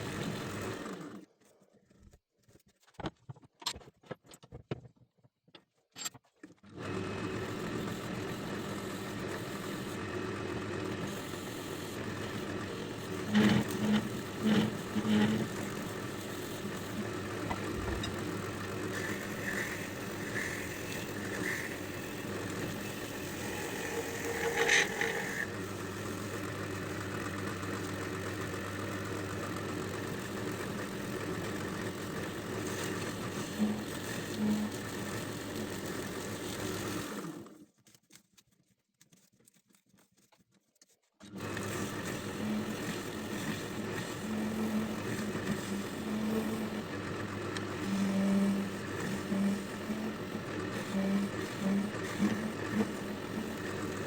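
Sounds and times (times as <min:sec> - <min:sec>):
wood lathe motor running: 0:00.0 - 0:01.3, 0:06.7 - 0:37.5, 0:41.2 - 0:54.0.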